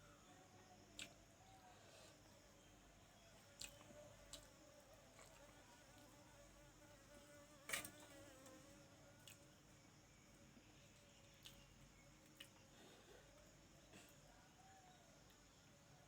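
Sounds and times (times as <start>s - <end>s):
faint insect buzzing: 0.0s - 15.6s.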